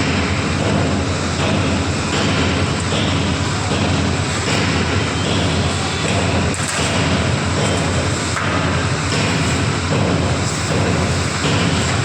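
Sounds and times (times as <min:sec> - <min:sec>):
industrial machinery running: 0:00.0 - 0:12.0.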